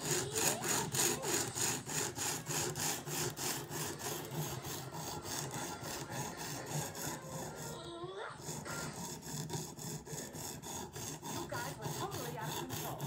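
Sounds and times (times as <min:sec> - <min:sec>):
sharpening stone scraping blade: 0:00.0 - 0:07.8, 0:08.4 - 0:13.0.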